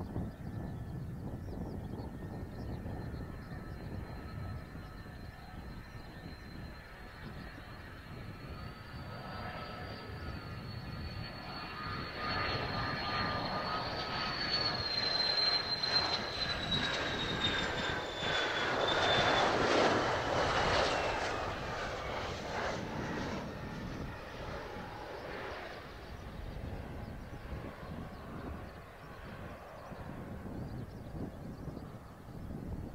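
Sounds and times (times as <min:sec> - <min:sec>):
jet engine whining: 0:00.0 - 0:32.9.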